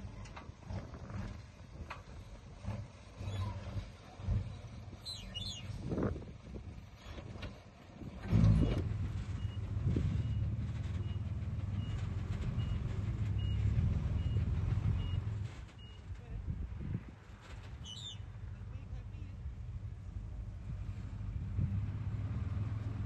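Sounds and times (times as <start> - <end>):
diesel engine of heavy machine: 0.0 - 23.0.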